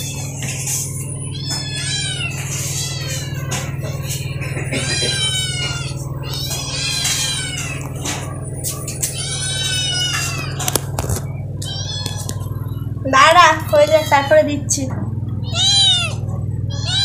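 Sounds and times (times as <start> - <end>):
cats meowing: 0.0 - 12.9, 13.7 - 14.4, 15.4 - 17.0.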